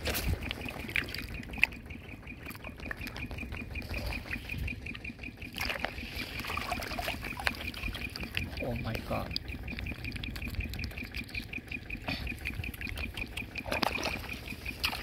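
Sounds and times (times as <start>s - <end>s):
rapid high-pitched chirping: 0.1s - 15.0s
water trickling and dripping: 0.5s - 11.8s, 12.4s - 15.0s.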